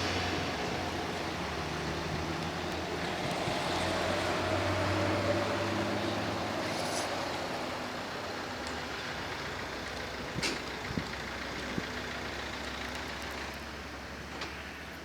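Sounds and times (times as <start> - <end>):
truck engine running: 0.0 - 14.3.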